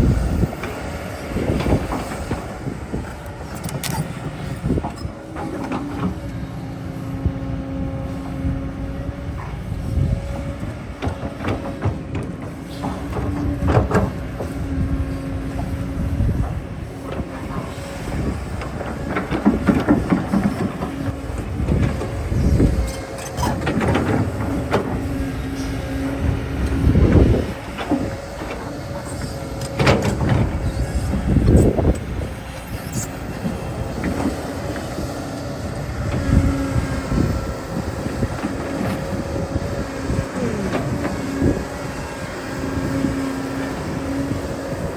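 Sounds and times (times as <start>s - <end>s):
earth-moving machine whine: 0.0s - 44.9s.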